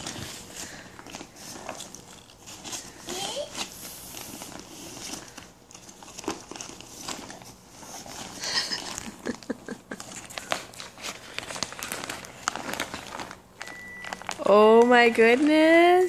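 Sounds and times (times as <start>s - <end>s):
paper mailer crinkling: 0.0s - 16.0s
plastic packaging rustling: 0.0s - 16.0s.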